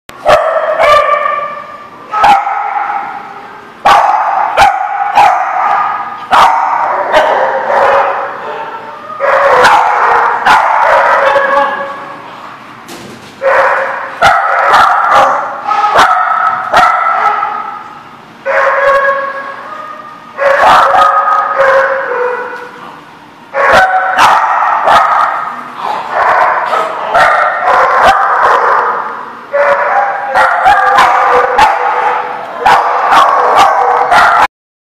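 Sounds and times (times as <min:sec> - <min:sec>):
small dogs barking: 0:00.2 - 0:12.1, 0:13.4 - 0:22.8, 0:23.5 - 0:34.5.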